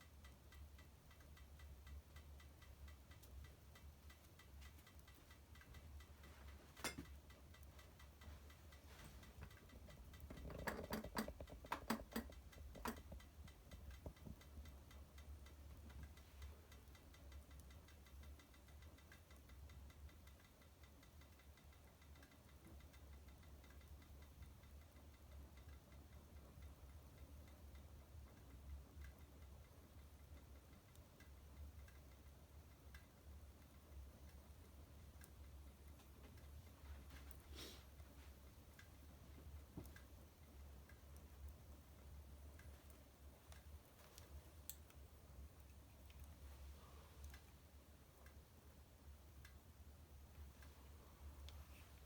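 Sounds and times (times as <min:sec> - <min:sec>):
low steady hum: 0:00.0 - 0:52.0
wood fire crackling and popping: 0:00.1 - 0:52.0.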